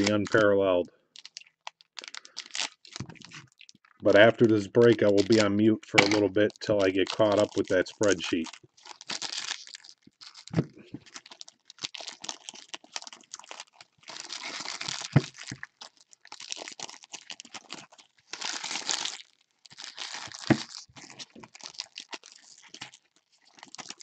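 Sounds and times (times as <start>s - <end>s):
foil wrappers crinkling: 0.0s - 24.0s.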